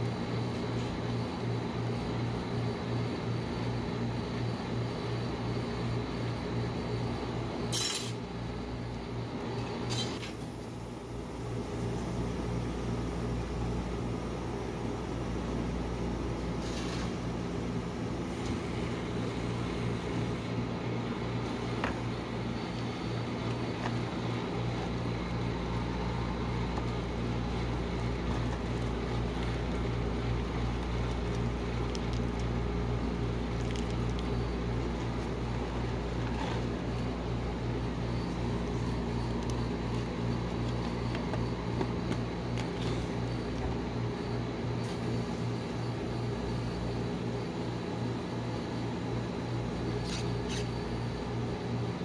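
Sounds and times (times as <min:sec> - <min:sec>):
refrigeration unit humming: 0:00.0 - 0:52.0.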